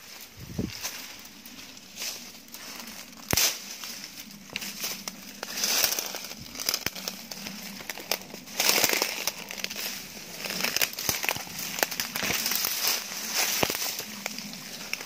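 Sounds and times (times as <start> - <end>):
footsteps through dry undergrowth: 0.0 - 15.0
twigs snapping: 0.2 - 15.0.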